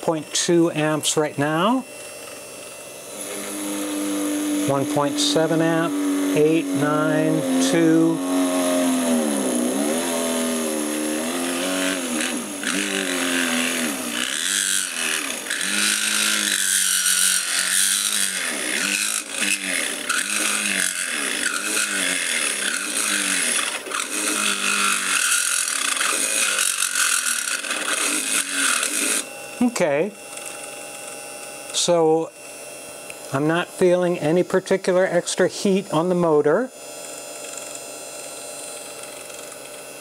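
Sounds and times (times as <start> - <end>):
drill bit scraping metal: 0.0 - 32.5
small drill motor whining: 0.0 - 40.0.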